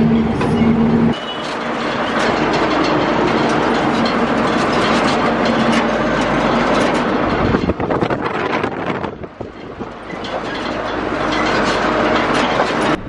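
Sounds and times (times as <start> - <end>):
loose metal rattling and clanking: 0.0 - 13.0
road and wind noise: 0.0 - 13.0.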